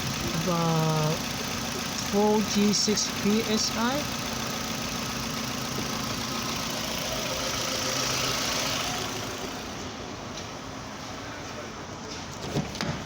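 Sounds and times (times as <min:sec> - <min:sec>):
car engine idling roughly: 0:00.0 - 0:11.1.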